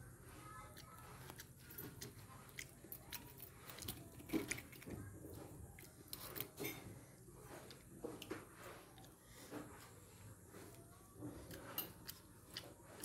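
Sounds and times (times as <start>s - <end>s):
faint chewing: 0.1s - 13.0s.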